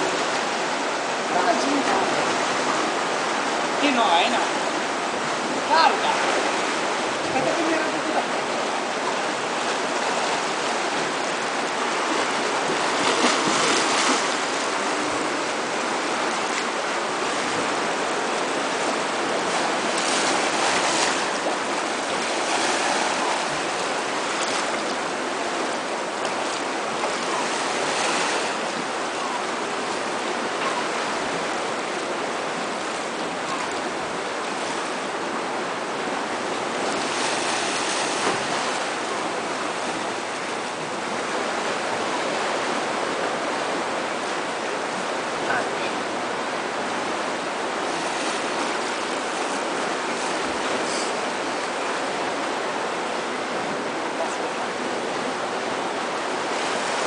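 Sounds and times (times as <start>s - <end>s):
waves washing against rocks: 0.0s - 57.0s.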